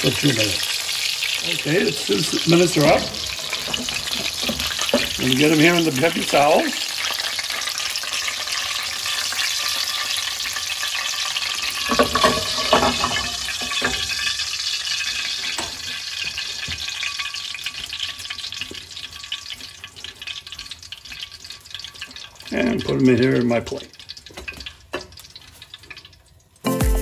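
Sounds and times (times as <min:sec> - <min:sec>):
oil sizzling in a frying pan: 0:00.0 - 0:26.7.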